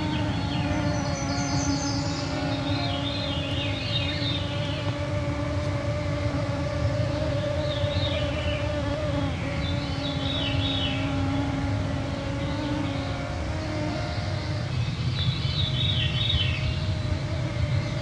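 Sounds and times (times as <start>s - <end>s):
mosquitoes whining: 0.0s - 18.0s
songbird singing: 0.0s - 18.0s.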